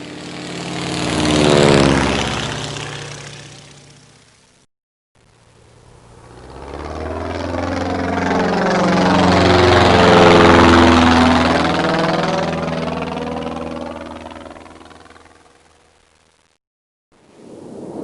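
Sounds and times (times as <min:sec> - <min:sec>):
airplane flying over: 0:00.0 - 0:04.6, 0:05.2 - 0:16.1.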